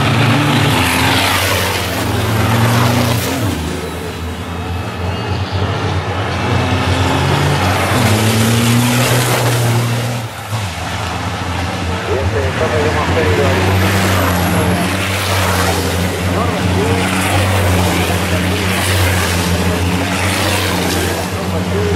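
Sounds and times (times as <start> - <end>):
diesel truck engines running hard: 0.0 - 21.9.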